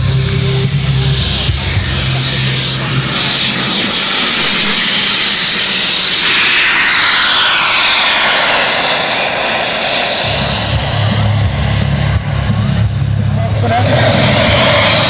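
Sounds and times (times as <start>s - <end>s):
low steady rumble: 0.0s - 15.0s
model jet engines whining: 0.0s - 15.0s.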